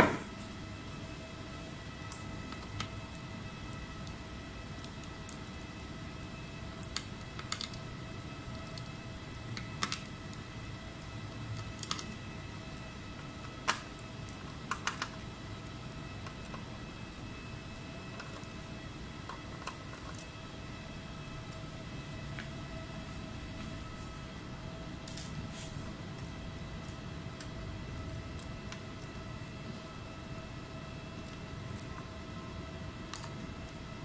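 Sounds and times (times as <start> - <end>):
electrical hum with whine: 0.0 - 34.0.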